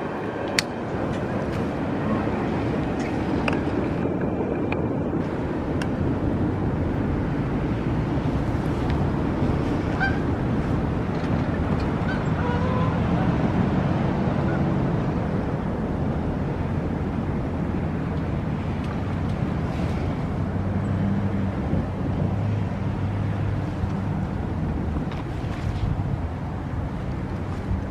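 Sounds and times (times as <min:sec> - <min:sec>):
train passing: 0:00.0 - 0:27.9
wind buffeting microphone: 0:00.0 - 0:27.9.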